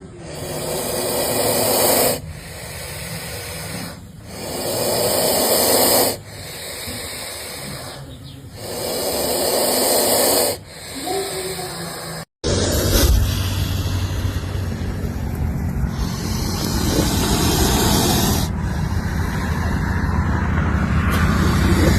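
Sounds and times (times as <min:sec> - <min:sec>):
snake hissing: 0:00.0 - 0:15.0, 0:15.8 - 0:20.0.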